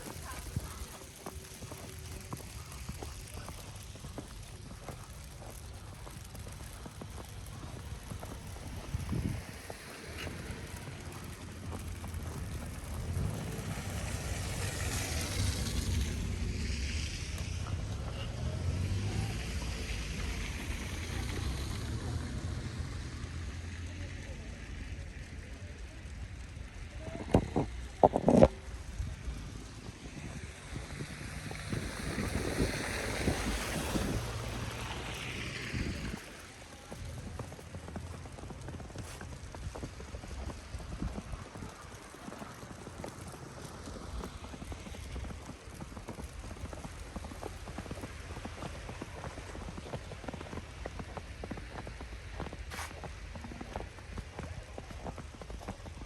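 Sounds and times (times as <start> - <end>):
footsteps crunching through snow: 0.0 - 17.1, 27.4 - 56.0
wind rumbling on microphone: 0.0 - 56.0.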